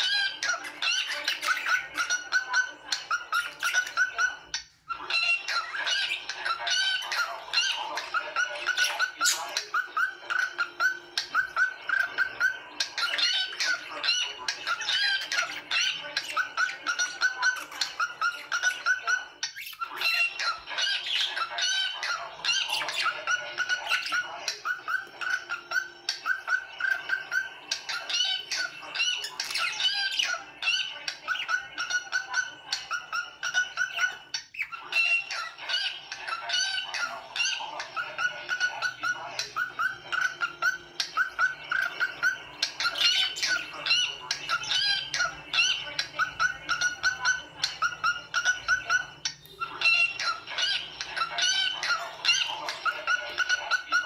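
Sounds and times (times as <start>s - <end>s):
small birds chirping and squawking: 0.0s - 54.0s.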